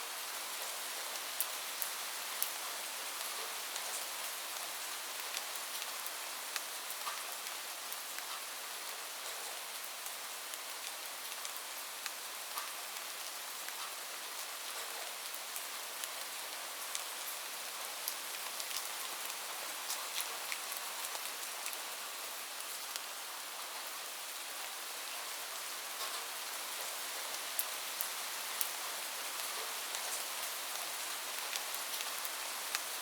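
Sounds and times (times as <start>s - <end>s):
rain falling: 0.1s - 33.0s.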